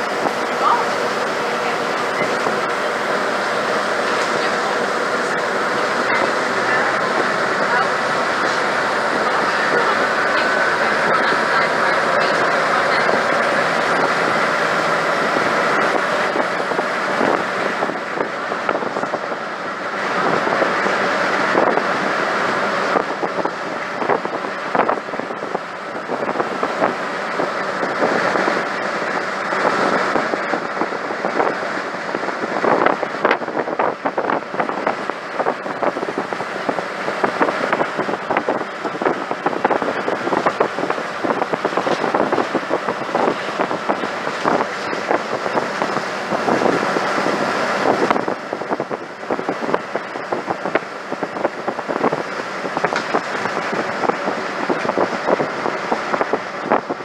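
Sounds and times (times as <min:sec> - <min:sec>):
bus body rattling and knocking: 0:00.0 - 0:57.0
bus engine and road noise: 0:00.0 - 0:57.0.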